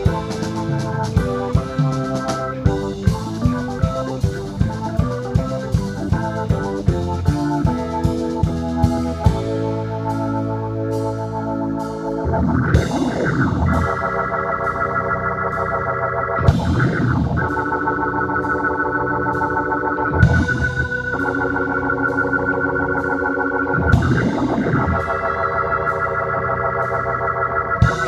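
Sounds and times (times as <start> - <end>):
electronic organ chords: 0.0 - 28.0
live band playing: 0.0 - 28.0.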